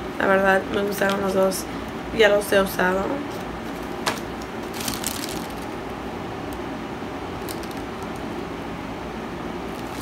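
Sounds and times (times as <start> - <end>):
background room noise: 0.0 - 10.0.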